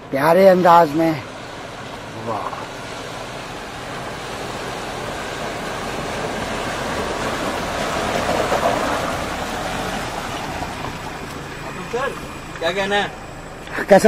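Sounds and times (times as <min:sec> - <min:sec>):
tyres splashing through water: 0:00.0 - 0:14.0.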